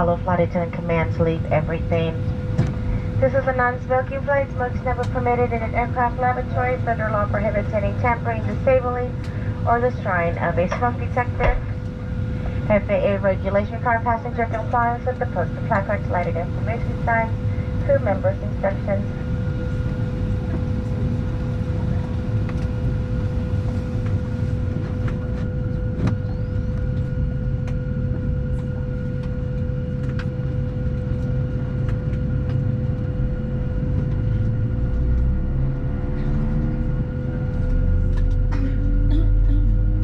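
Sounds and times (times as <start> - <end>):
aircraft cabin engine rumble: 0.0 - 40.0
steady whine: 0.0 - 40.0.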